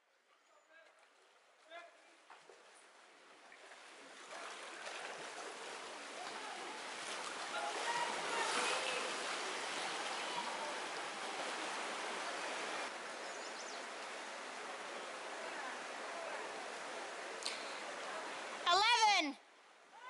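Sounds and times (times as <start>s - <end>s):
canoe paddles splashing: 0.8s - 18.7s
river current rushing: 3.5s - 20.0s.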